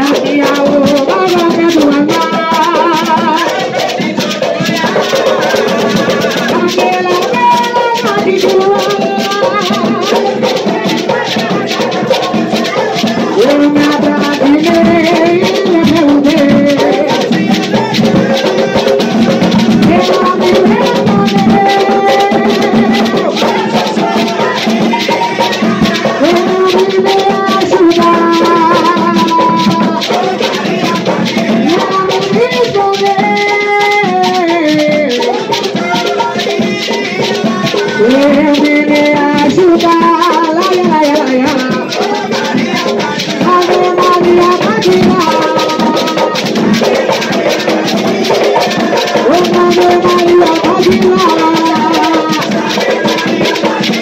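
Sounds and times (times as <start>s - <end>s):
hand drums: 0.0s - 54.0s
rattling percussion: 0.0s - 54.0s
voices singing a chant: 0.0s - 54.0s.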